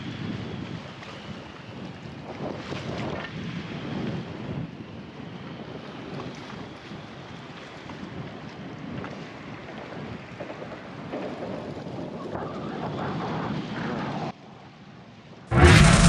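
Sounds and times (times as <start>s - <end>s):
wind buffeting microphone: 0.0s - 7.2s, 7.8s - 14.4s.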